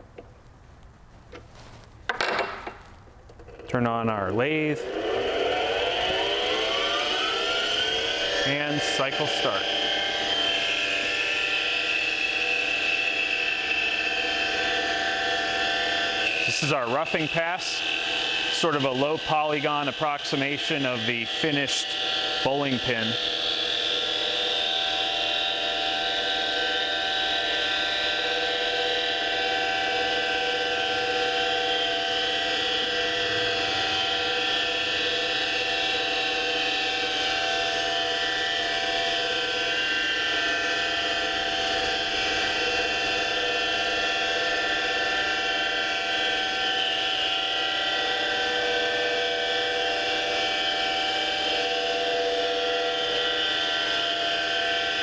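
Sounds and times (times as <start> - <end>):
lathe motor whining: 3.3 - 55.0
lathe tool cutting wood: 3.5 - 55.0.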